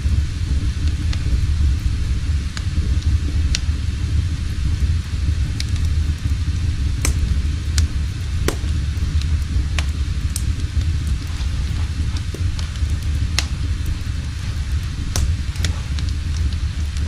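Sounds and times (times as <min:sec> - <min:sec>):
fire burning in fireplace: 0:00.0 - 0:17.0
fire crackles: 0:00.0 - 0:17.0.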